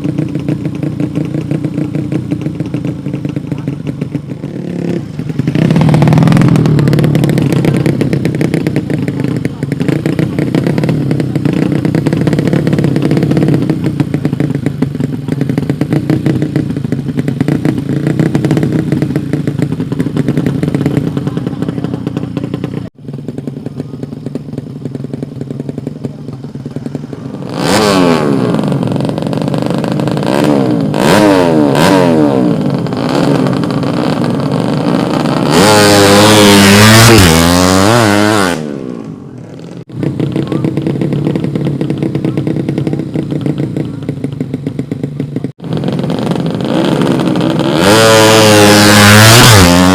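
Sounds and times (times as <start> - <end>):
motorcycle engines idling: 0.0 - 49.9
motorcycles revving and accelerating: 0.0 - 49.9.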